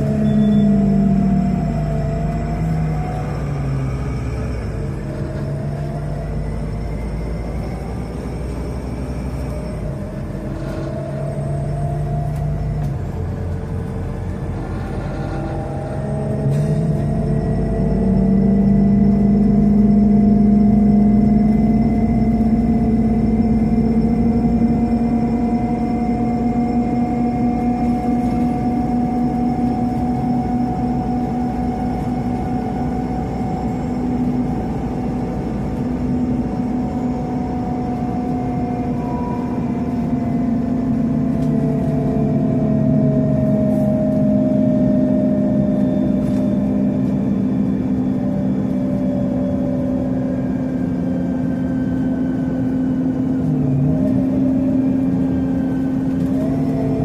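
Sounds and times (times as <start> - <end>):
bus engine rumble: 0.0 - 57.0
drivetrain whine: 0.0 - 57.0.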